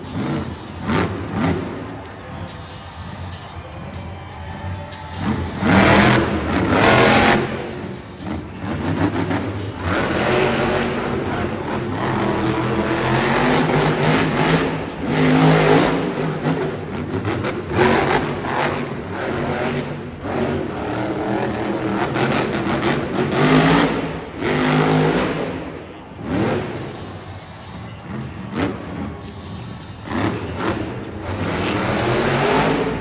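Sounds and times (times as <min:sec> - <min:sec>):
monster truck engine revving: 0:00.0 - 0:04.0, 0:04.6 - 0:33.0.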